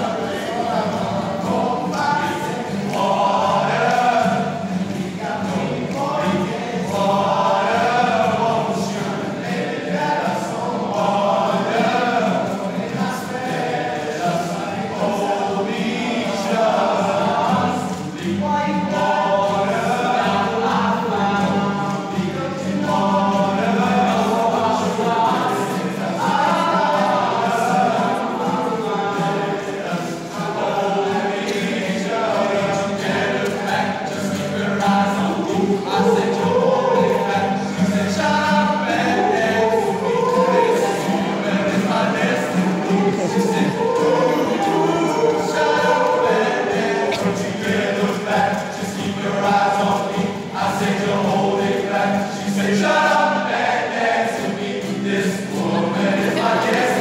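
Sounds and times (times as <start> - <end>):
men's choir singing: 0.0 - 57.0.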